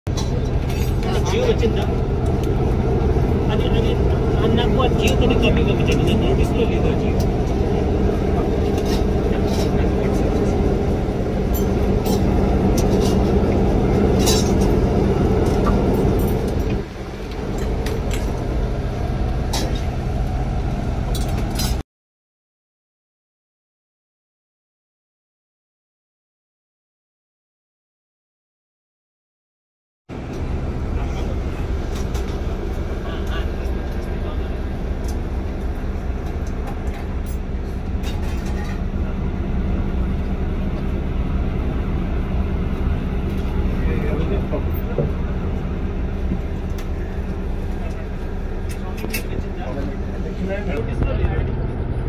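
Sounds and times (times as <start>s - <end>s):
helicopter engine and rotor drone: 0.1s - 21.8s, 30.1s - 52.0s.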